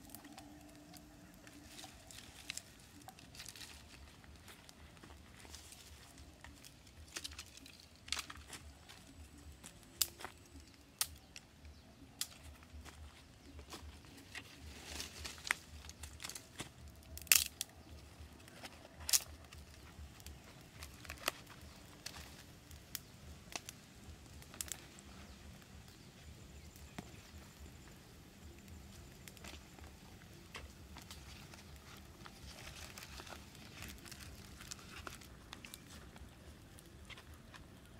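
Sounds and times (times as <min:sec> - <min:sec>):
campfire twigs snapping: 0:00.0 - 0:37.9
dry sticks and leaves handled: 0:00.0 - 0:37.9.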